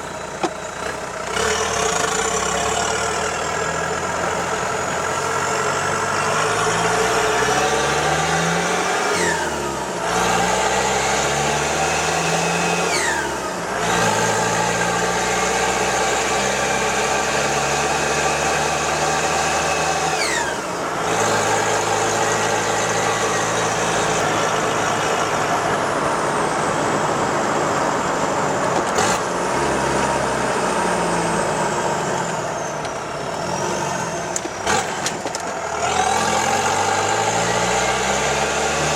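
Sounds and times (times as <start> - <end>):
diesel engine accelerating: 0.0 - 38.9.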